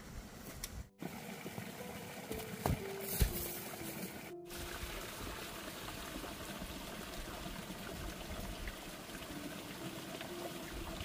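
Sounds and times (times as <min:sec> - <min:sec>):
running water: 0:01.0 - 0:11.0.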